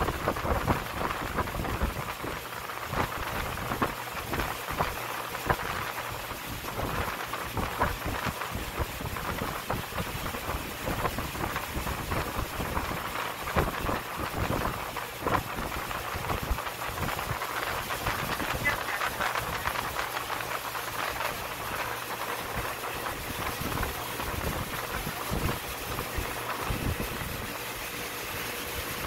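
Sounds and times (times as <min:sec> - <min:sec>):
steady hiss: 0:00.0 - 0:28.9.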